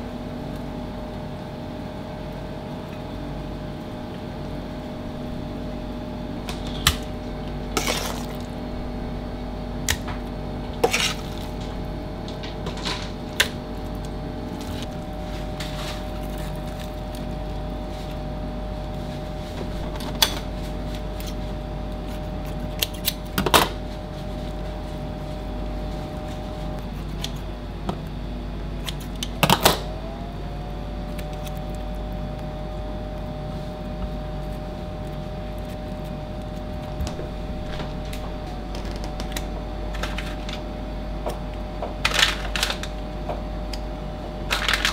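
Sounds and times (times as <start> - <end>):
kitchen machinery hum: 0.0 - 44.9.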